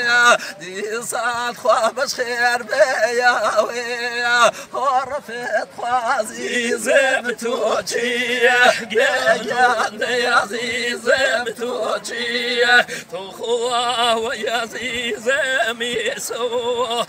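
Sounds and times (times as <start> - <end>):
men singing folk song: 0.0 - 17.0.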